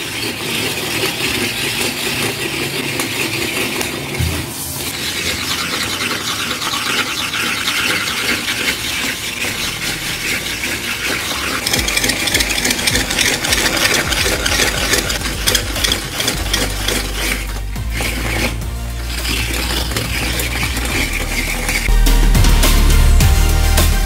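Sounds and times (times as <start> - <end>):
coconut scraper rasping: 0.0 - 22.0.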